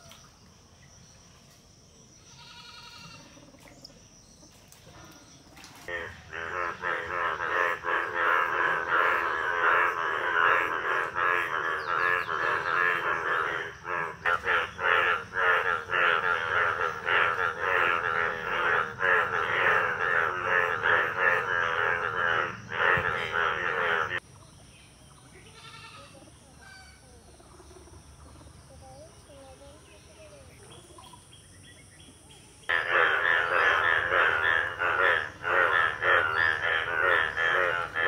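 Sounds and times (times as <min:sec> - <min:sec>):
frog chorus calling: 0:02.3 - 0:03.6, 0:05.8 - 0:24.4, 0:25.3 - 0:38.0.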